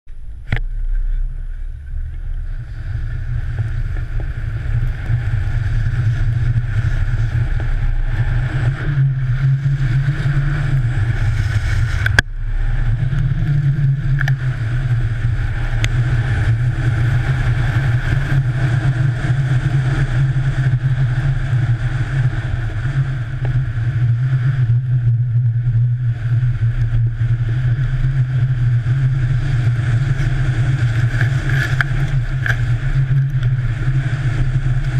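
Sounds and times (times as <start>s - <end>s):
skis running over snow: 1.0s - 34.9s.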